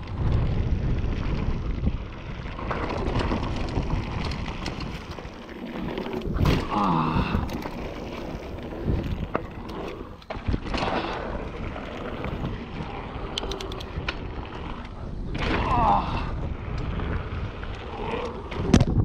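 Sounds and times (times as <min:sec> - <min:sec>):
bike knocking and rattling: 0:00.0 - 0:19.0
bike tyres rolling on gravel: 0:00.0 - 0:19.0.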